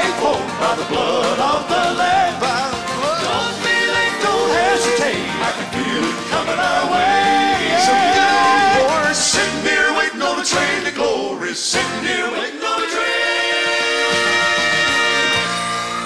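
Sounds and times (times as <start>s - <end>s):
instrumental accompaniment: 0.0s - 11.2s, 11.8s - 16.0s
male voices singing in harmony: 0.0s - 15.6s.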